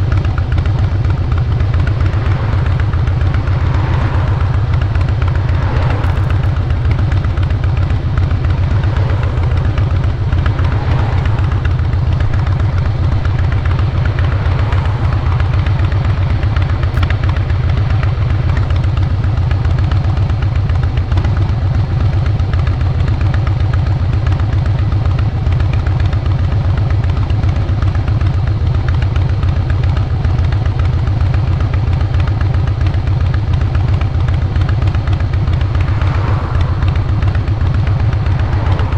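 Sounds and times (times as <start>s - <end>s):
motorcycle exhaust running steadily: 0.0s - 38.9s.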